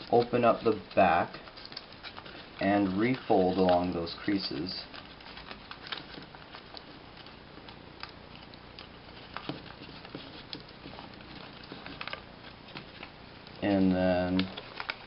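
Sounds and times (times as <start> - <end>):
paper crinkling: 0.0 - 15.0.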